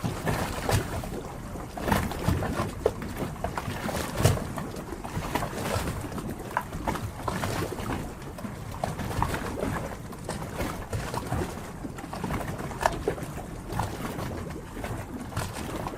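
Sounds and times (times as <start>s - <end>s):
small water splashes: 0.0s - 15.9s
water lapping: 0.0s - 15.9s.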